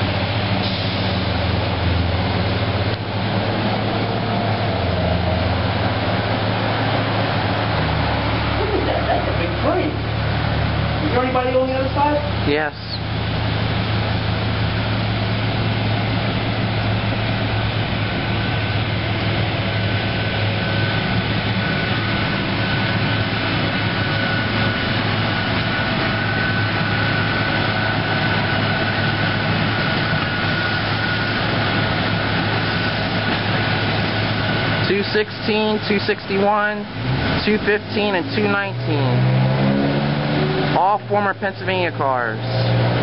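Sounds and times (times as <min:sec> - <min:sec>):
electric train running past: 0:00.0 - 0:43.0
thin whine: 0:00.0 - 0:43.0.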